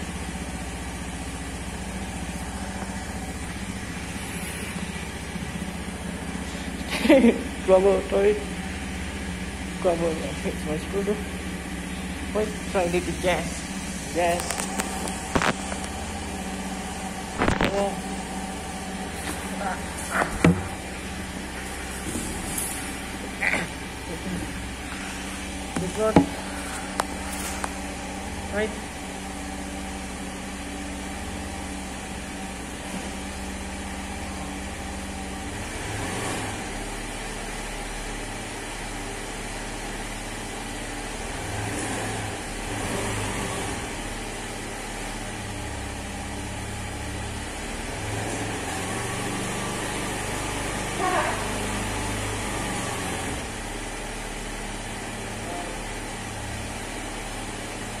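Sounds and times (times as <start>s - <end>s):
scooter engine idling: 0.0s - 58.0s.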